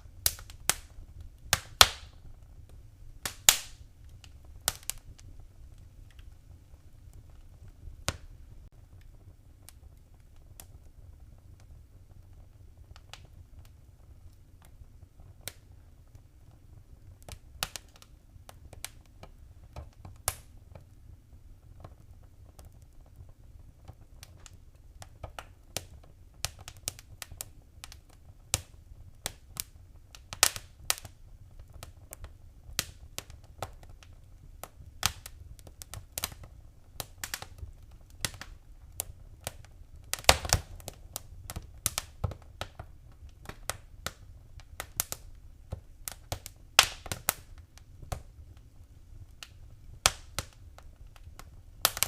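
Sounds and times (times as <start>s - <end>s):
fireplace fire crackling: 0.0s - 52.0s.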